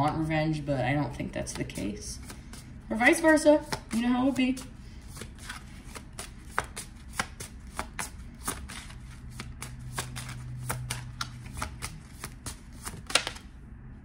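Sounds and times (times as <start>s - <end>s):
cards being shuffled by hand: 1.4s - 13.5s.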